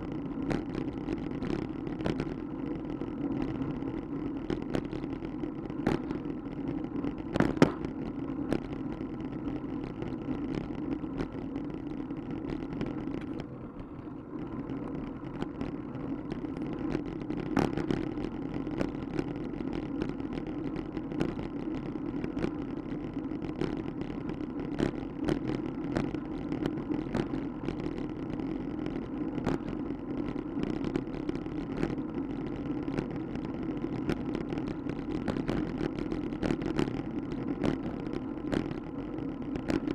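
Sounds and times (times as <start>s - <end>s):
bicycle road rumble: 0.0s - 39.9s
wind: 0.0s - 39.9s
wheels knocking over cracks: 0.1s - 39.9s.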